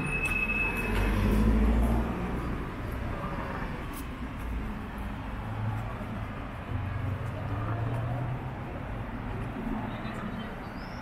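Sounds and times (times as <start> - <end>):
passing vehicle rumble: 0.0 - 11.0
steady traffic hum: 0.0 - 11.0.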